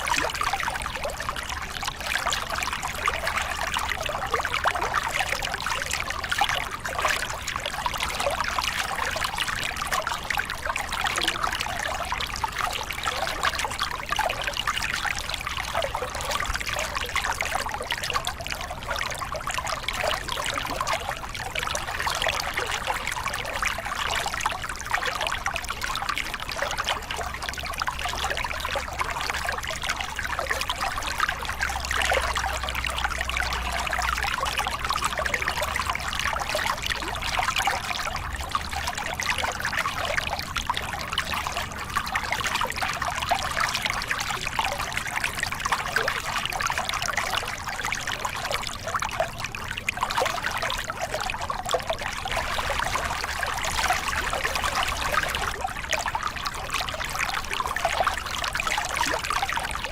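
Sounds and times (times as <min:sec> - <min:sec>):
water pouring over rocks: 0:00.0 - 0:59.9.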